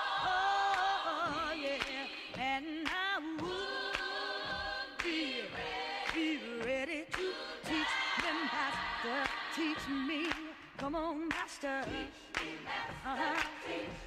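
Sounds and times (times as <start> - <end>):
lead voice singing with vibrato: 0.0 - 14.0.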